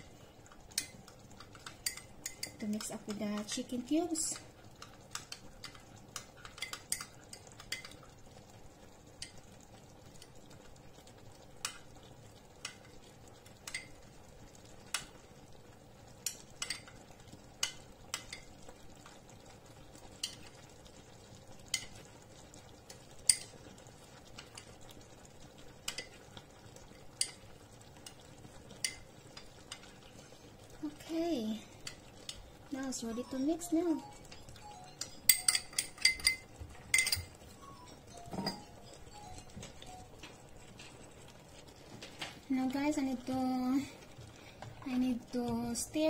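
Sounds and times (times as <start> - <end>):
food sizzling in a frying pan: 0.0 - 46.0
sharp pops of frying: 0.0 - 46.0.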